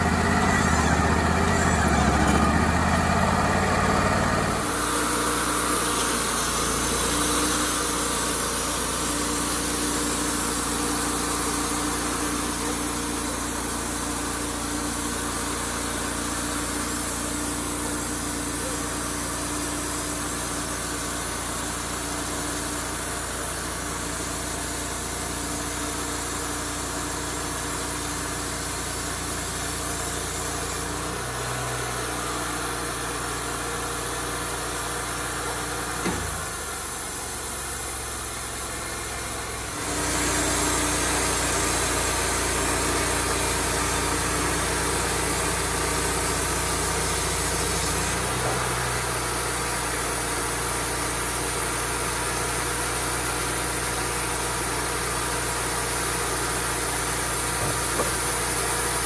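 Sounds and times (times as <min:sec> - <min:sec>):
band sawmill cutting wood: 0:00.0 - 0:59.0.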